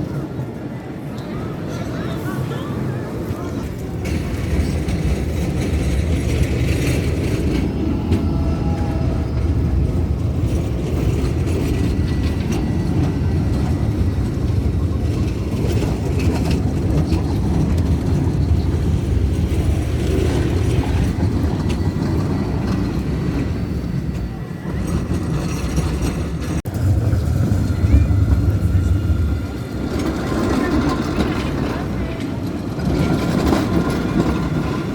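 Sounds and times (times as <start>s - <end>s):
tram rumbling on rails: 0.0s - 34.9s.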